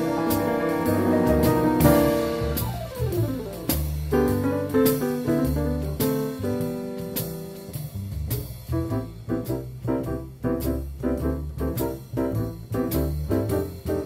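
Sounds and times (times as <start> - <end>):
piano chords: 0.0 - 7.6, 8.8 - 14.0
double bass notes: 0.0 - 14.0
jazz piano trio: 0.0 - 14.0.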